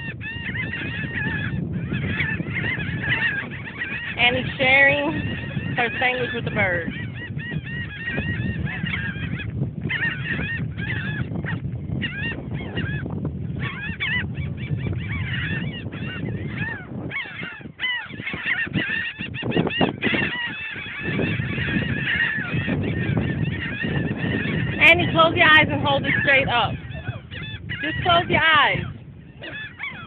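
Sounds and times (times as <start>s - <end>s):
flock of birds calling: 0.0s - 30.0s.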